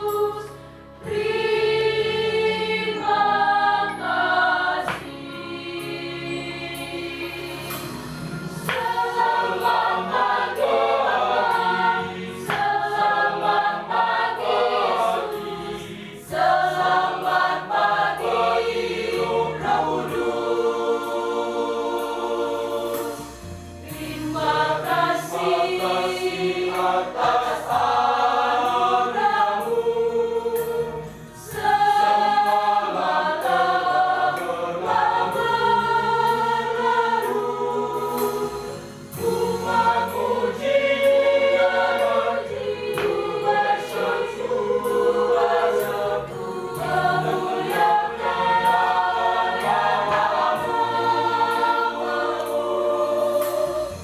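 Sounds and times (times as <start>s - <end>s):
church choir singing a hymn: 0.0s - 54.0s.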